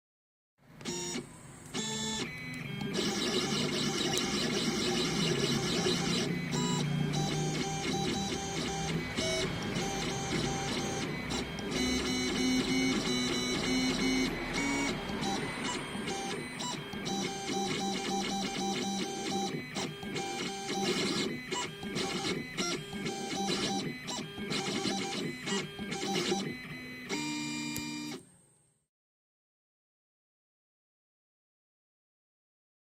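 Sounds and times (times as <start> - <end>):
stepper motors whining: 0.9 - 28.1.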